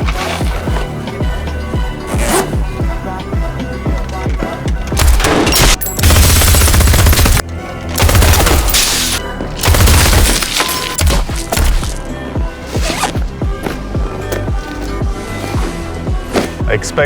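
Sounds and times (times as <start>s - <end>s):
film soundtrack music: 0.0s - 17.0s.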